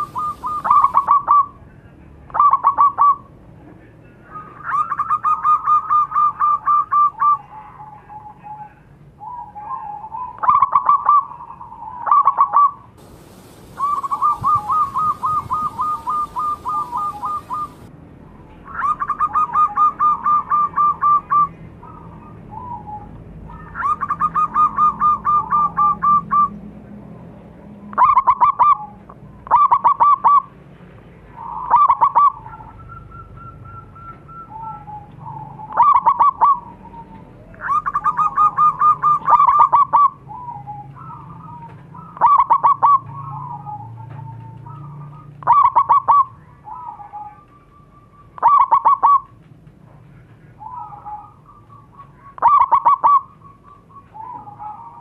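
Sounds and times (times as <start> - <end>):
dove cooing: 0.0 - 1.5, 4.3 - 17.9, 18.7 - 26.5, 31.4 - 49.3, 50.6 - 55.0.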